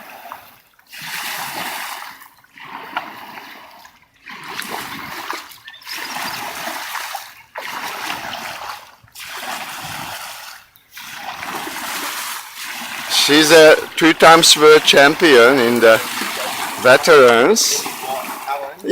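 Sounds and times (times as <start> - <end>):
paddle splashing water: 0.0 - 18.9.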